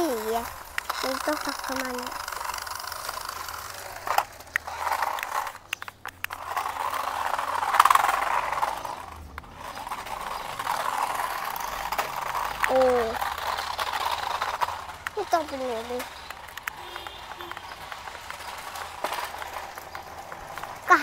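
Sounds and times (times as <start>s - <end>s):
sharp clicks: 0.0s - 21.0s
toy cars whirring rattle: 0.0s - 21.0s.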